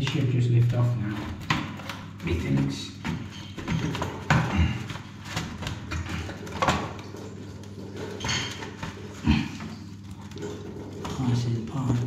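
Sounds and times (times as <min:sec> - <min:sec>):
plastic casing knocking and scraping: 0:00.0 - 0:12.0.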